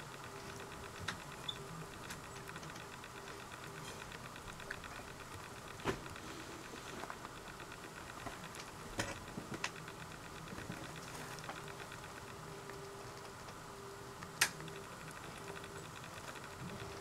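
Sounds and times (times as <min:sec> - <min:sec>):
low steady hum: 0:00.0 - 0:17.0
mice feeding and shuffling: 0:00.0 - 0:17.0
sharp clicks: 0:00.0 - 0:17.0.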